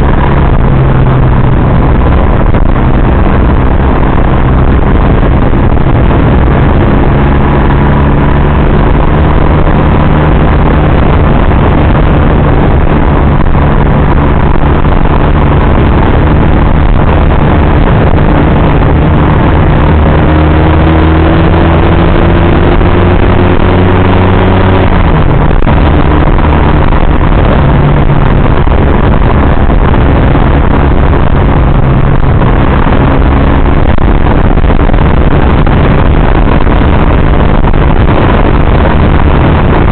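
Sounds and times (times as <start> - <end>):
dense rush of noise: 0.0 - 39.9
motorcycle engine running: 0.0 - 39.9.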